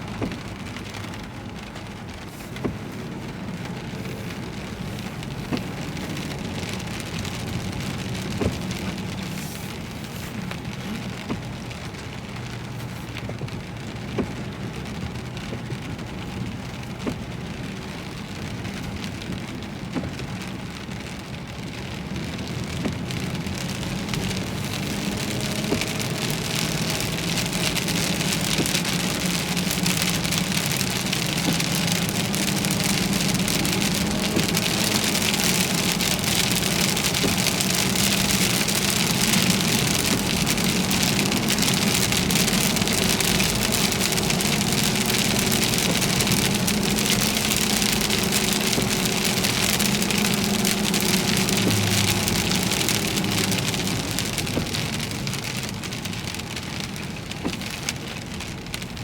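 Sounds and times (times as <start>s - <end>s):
car hum on the road: 0.0s - 59.0s
rain beating on a car: 0.0s - 59.0s.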